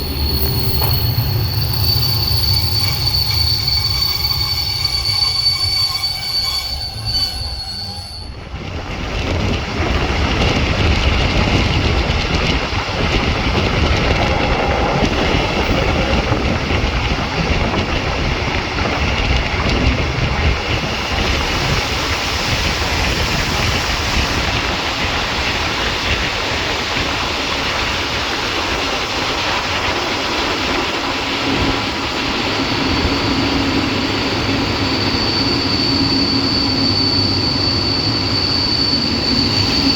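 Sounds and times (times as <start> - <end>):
train wheel squeal: 0.0 - 8.7, 10.3 - 39.9
rumble and rattle of moving train: 0.0 - 39.9.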